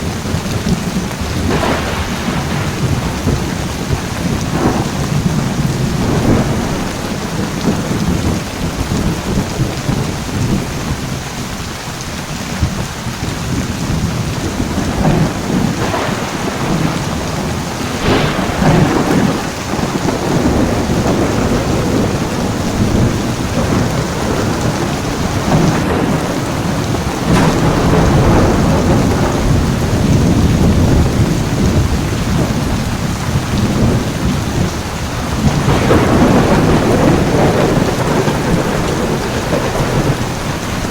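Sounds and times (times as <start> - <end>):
thunder cracks: 0.0 - 11.2, 13.4 - 40.9
rolling thunder: 0.0 - 11.5, 12.5 - 40.9
heavy rain: 0.0 - 40.9.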